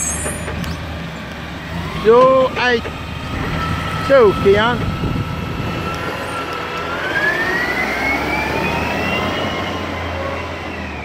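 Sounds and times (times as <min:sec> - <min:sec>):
rising engine whine: 0:00.0 - 0:11.0
truck engine hum: 0:00.0 - 0:11.0.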